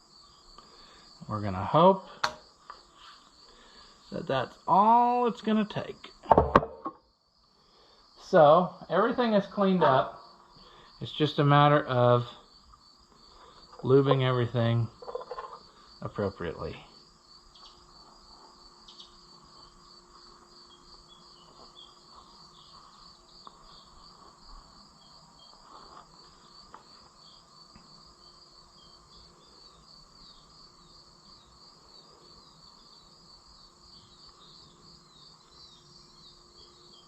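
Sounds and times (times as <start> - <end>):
crickets chirping: 0.0 - 37.0.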